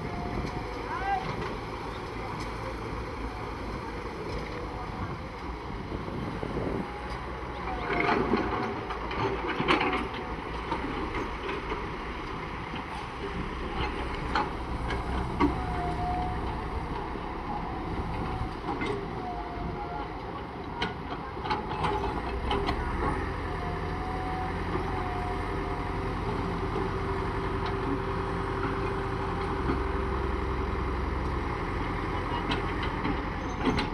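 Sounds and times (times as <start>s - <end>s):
heavy machine engine running: 0.0s - 33.9s.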